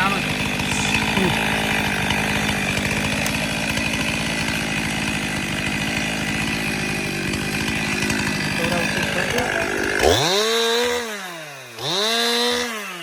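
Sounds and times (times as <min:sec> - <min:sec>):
chainsaw cutting a tree: 0:00.0 - 0:13.0.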